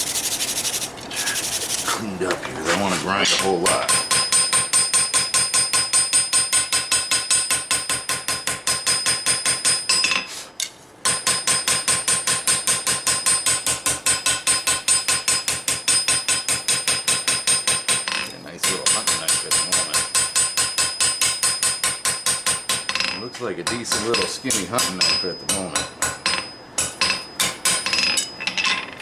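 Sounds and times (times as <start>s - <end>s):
hammer striking steel on anvil: 3.4s - 10.3s, 11.1s - 28.9s.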